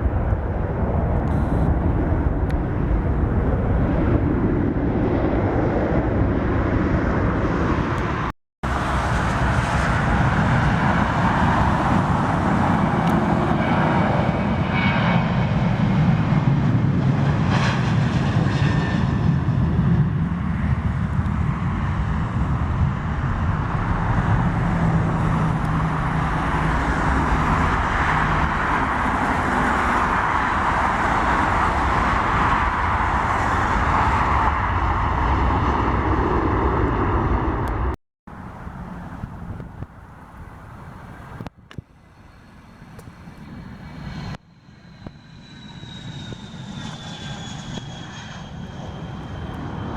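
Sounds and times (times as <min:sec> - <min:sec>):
jet aircraft engines running: 0:00.0 - 0:49.9.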